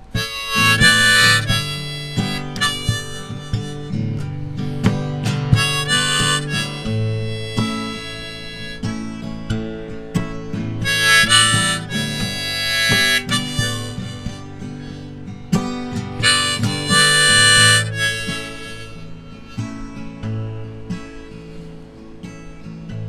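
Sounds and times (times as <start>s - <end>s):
harmonica phrases: 0.0s - 22.1s
guitar strumming: 0.0s - 23.0s.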